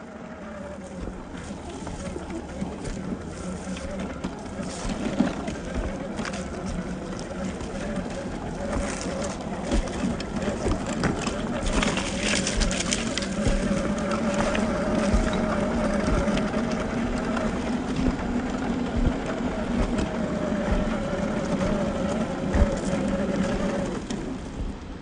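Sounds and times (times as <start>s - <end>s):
electric motor whining: 0.0s - 25.0s
tyres crunching on gravel: 0.0s - 25.0s.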